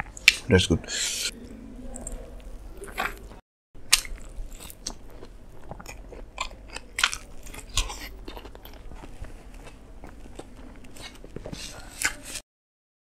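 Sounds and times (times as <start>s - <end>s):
biting and chewing burger: 1.3s - 12.4s.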